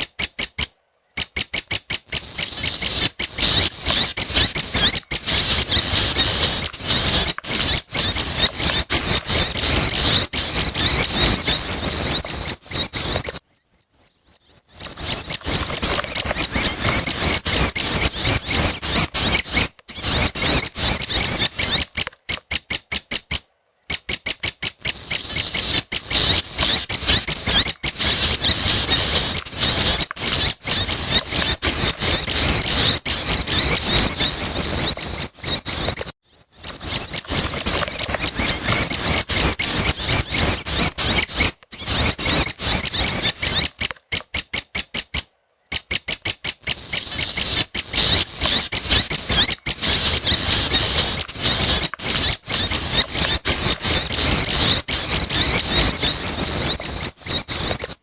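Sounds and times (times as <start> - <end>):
bird chicks chirping: 0.0 - 58.0.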